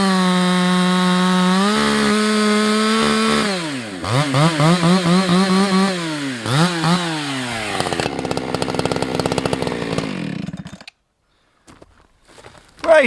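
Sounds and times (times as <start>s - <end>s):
chainsaw revving and idling: 0.0s - 10.9s.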